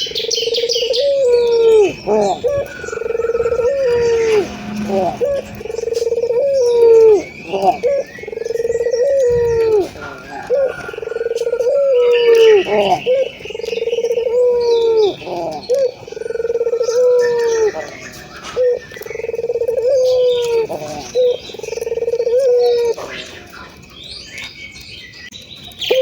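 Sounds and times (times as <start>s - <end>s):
dove cooing: 0.0s - 23.8s.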